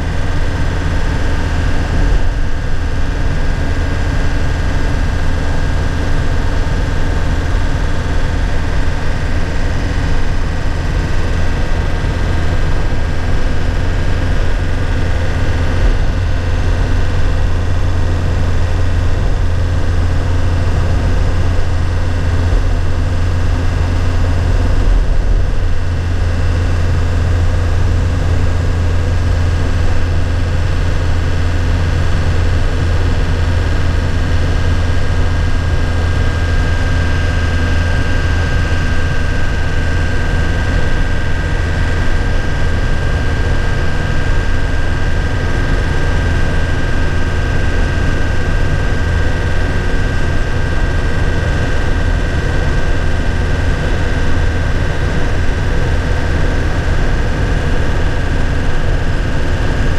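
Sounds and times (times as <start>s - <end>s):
truck engine drone from cab: 0.0s - 59.9s.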